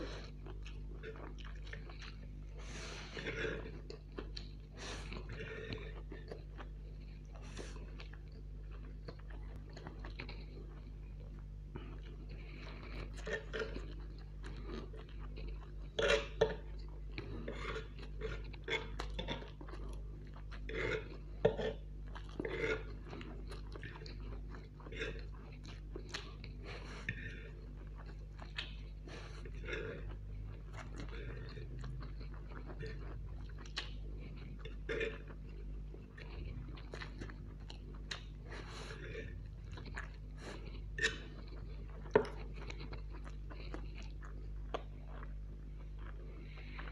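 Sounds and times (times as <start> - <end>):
man chewing noodles: 0.0 - 46.9
steady low hum: 0.0 - 46.9.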